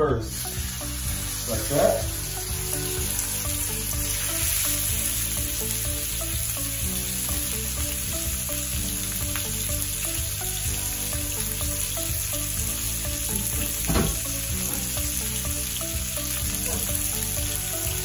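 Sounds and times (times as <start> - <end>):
chicken sizzling in hot oil: 0.1 - 18.0.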